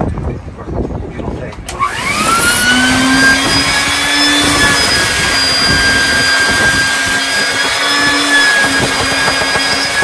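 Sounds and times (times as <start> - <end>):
shop vacuum running: 1.7 - 10.0.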